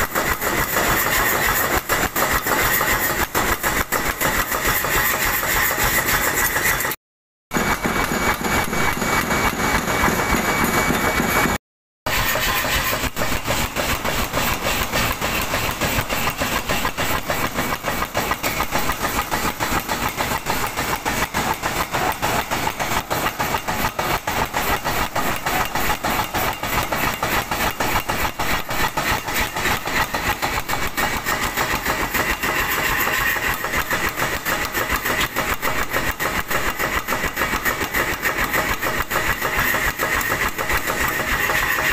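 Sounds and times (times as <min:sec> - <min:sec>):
power hammer pounding steel: 0:00.0 - 0:41.9.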